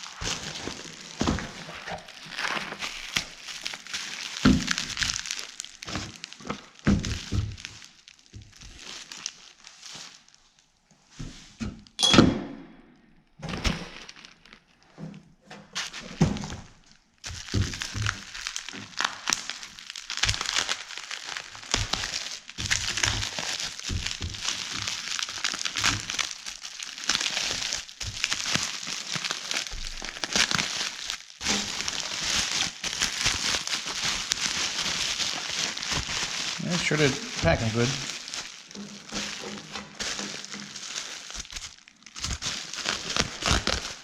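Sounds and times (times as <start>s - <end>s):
packing material crinkling: 0.0s - 11.6s, 13.4s - 44.0s.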